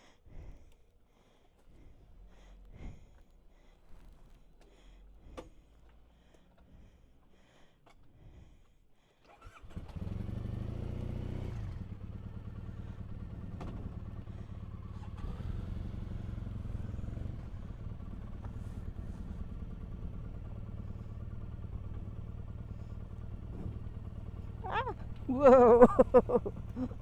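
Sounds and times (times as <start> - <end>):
motorcycle engine starting and running: 1.7 - 7.2, 9.2 - 27.0.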